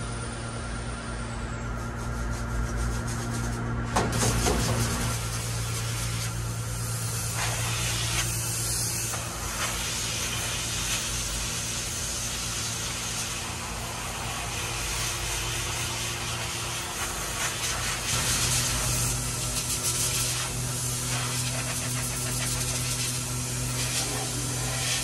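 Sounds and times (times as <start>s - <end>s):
steady low hum: 0.0s - 25.0s
compressed air gun hissing: 3.2s - 25.0s.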